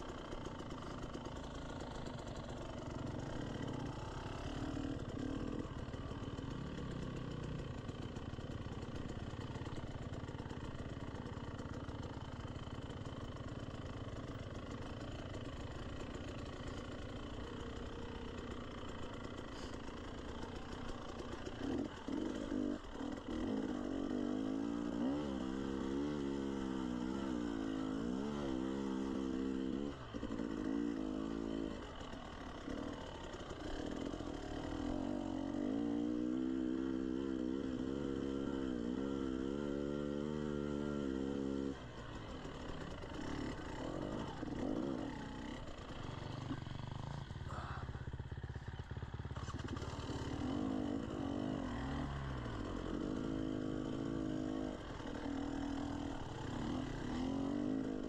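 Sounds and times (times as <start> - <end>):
dirt bike engine revving: 0.0 - 11.0, 15.4 - 48.2, 48.9 - 58.0.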